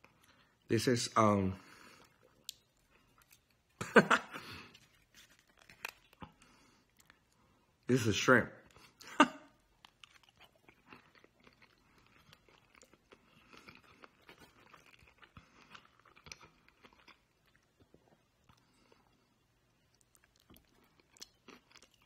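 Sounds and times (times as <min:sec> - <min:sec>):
person chewing food: 0:01.6 - 0:07.9, 0:08.6 - 0:22.0.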